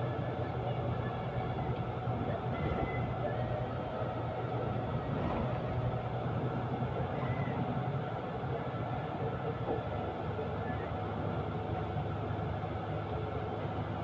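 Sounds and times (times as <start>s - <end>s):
vehicle interior rumble: 0.0s - 14.0s.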